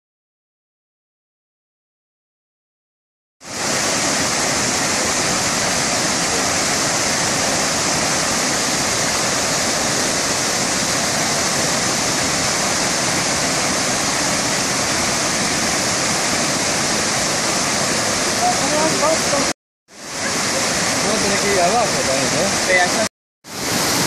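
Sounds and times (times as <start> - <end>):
waterfall rushing: 3.4 - 24.0.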